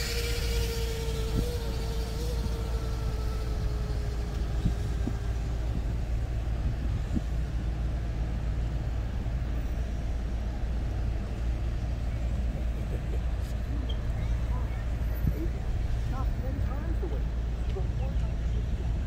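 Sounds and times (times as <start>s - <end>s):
car traffic rumbling: 0.0s - 19.0s
faint whine: 0.0s - 19.0s.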